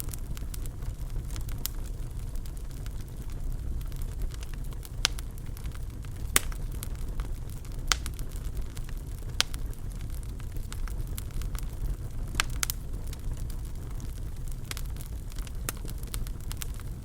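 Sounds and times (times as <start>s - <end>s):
fire sharp pops: 0.0s - 17.0s
wood fire crackling: 0.0s - 17.0s.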